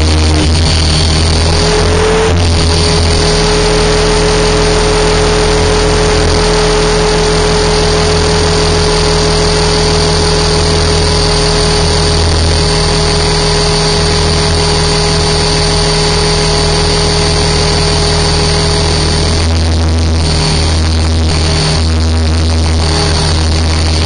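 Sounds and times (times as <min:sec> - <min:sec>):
helicopter rotors rushing: 0:00.0 - 0:24.0
motor and gears whining: 0:00.0 - 0:24.0.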